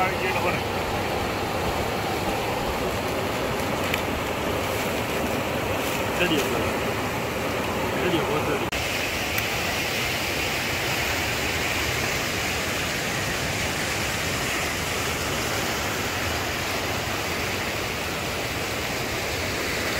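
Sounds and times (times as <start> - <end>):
river water rushing over rapids: 0.0 - 19.9.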